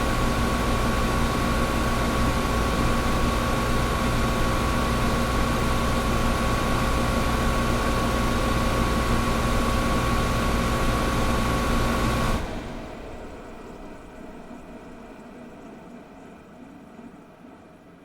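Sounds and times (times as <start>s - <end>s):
air conditioner running: 0.0s - 18.0s.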